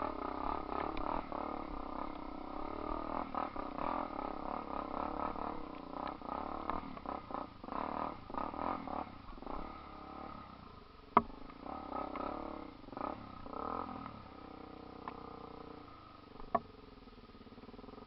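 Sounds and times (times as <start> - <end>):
off-road vehicle engine revving: 0.0 - 16.5.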